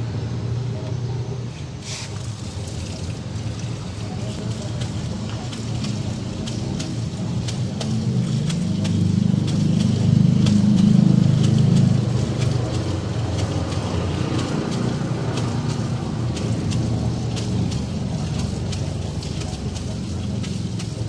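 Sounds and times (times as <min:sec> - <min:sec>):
engine rumble: 0:00.0 - 0:21.0.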